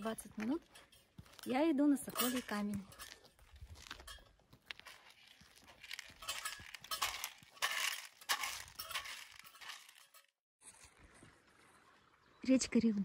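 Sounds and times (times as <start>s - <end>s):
footsteps crunching: 0.0s - 11.7s.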